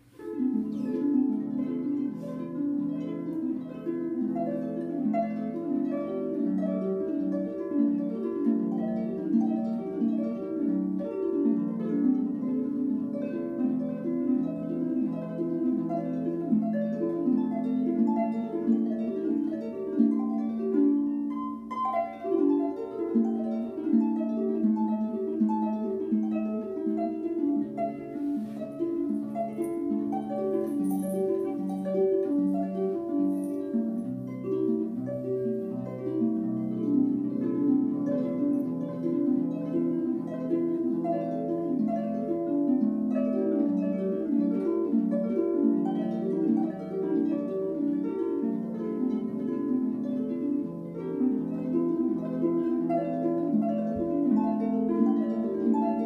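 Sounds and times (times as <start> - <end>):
harp plucked notes: 0.0 - 56.0.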